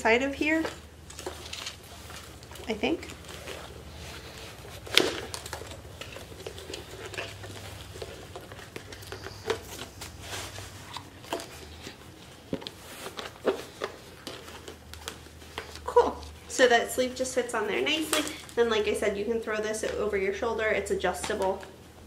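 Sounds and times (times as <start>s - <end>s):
fabric rustling: 0.0s - 18.6s.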